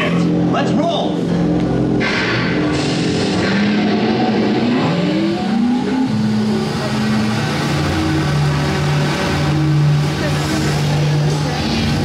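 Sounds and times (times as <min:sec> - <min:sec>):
engine revving: 0:01.2 - 0:12.0.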